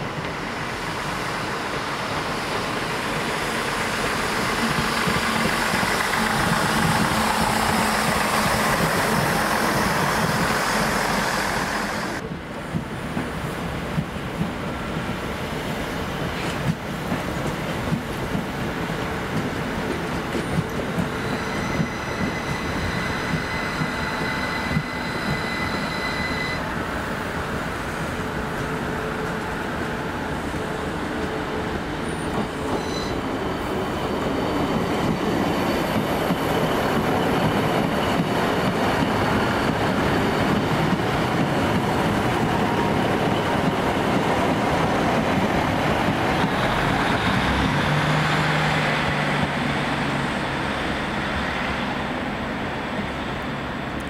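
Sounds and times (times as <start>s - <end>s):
train moving: 0.0s - 54.0s.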